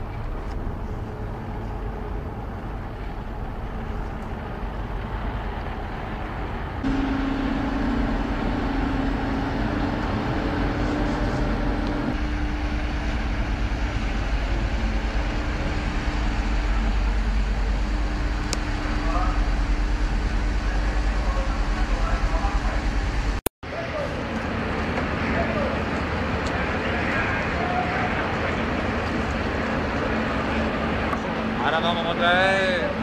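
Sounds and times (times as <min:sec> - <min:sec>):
ferry engines rumbling: 0:00.0 - 0:33.0
steady humming tone: 0:00.0 - 0:33.0.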